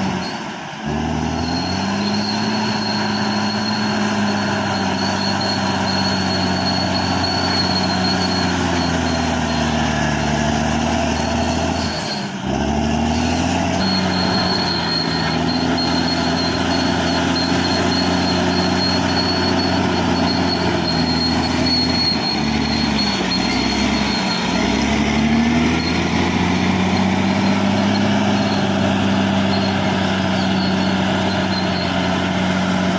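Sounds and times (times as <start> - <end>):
bulldozer diesel engine running: 0.0 - 32.9.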